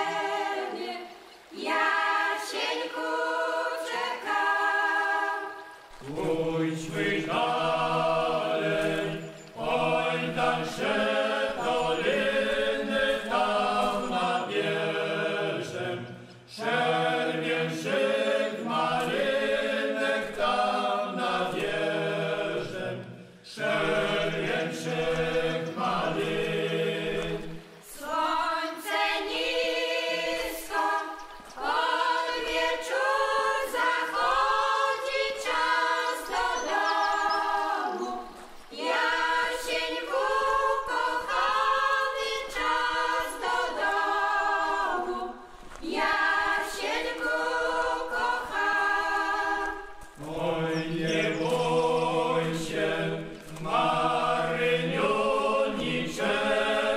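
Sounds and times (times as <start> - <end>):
men singing folk song: 0.0 - 56.9
women singing folk song: 0.0 - 56.9.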